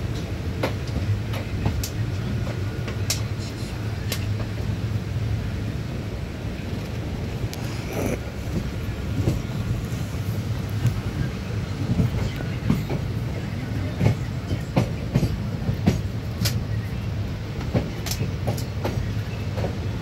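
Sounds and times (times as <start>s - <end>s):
train rumble on rails: 0.0s - 20.0s.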